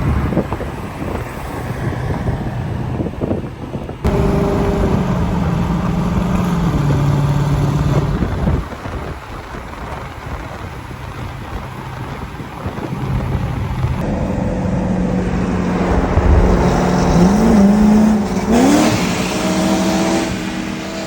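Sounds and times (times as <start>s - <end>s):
engines at full throttle: 0.0s - 21.0s
road and wind rumble: 0.0s - 21.0s.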